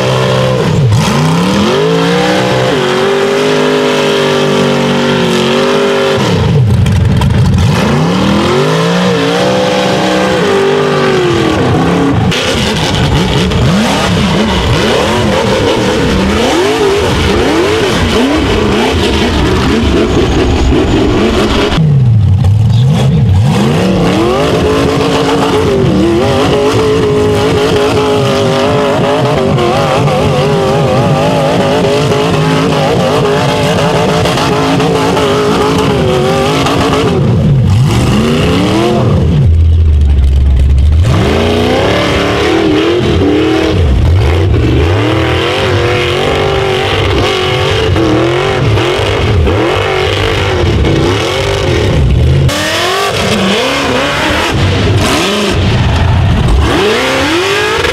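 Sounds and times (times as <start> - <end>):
engine revving hard: 0.0 - 57.9.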